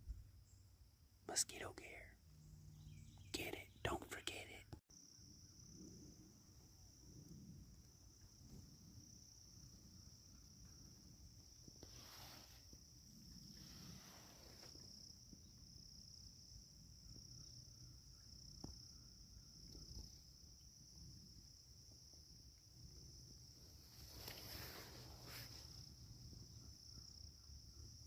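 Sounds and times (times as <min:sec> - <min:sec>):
insects trilling: 0:04.9 - 0:28.0.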